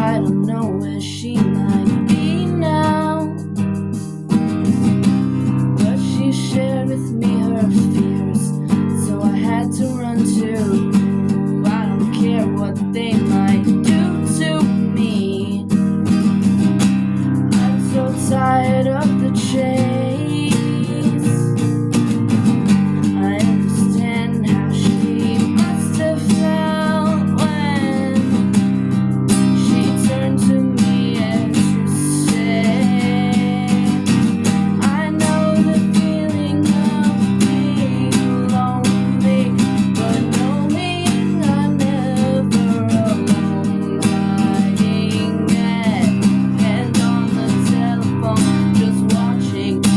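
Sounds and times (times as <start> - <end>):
acoustic guitar strumming and picking: 0.0 - 49.9.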